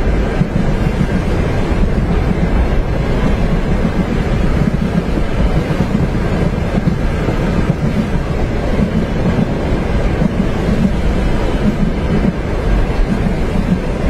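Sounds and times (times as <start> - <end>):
train rumbling on tracks: 0.0 - 14.0
wind: 0.0 - 14.0.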